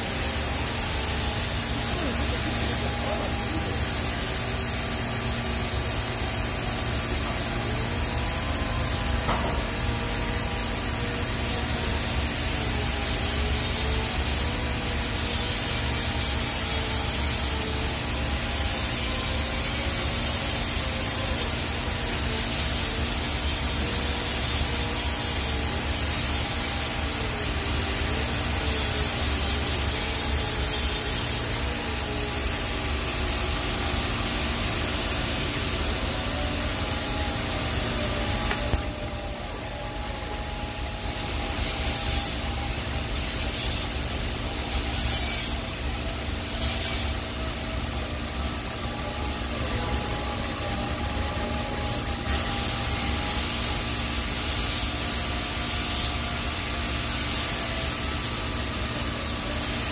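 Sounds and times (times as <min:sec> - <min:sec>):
welding arc hissing: 0:00.0 - 0:59.9.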